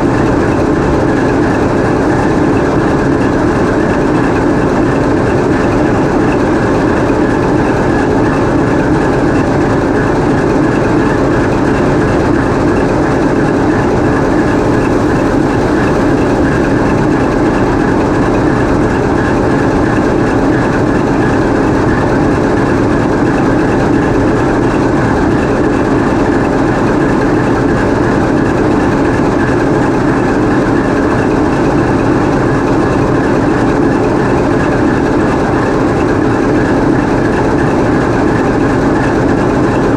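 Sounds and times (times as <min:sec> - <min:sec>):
diesel engine roaring: 0:00.0 - 0:39.9.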